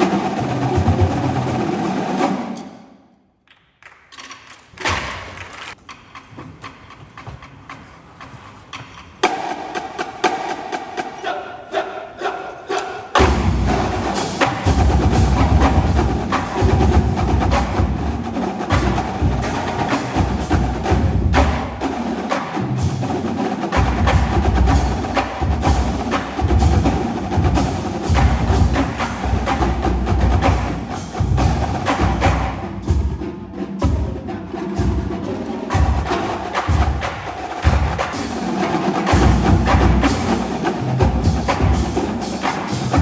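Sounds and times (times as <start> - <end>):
marching drumline playing: 0.0 - 2.8, 6.4 - 43.0.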